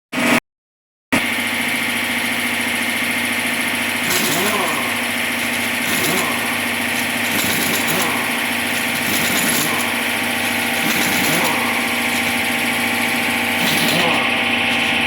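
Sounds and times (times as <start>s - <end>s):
engine droning: 1.2s - 15.0s.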